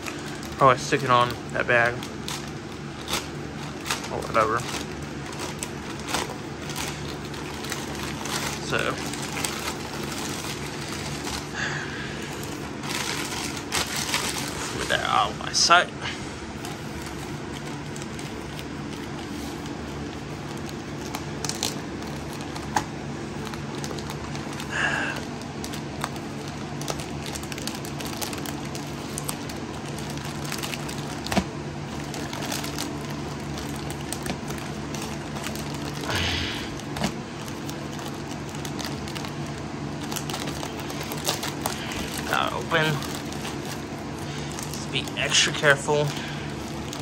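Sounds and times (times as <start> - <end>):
plastic mailer bag crinkling: 0.0 - 47.0
steady low hum: 0.0 - 47.0.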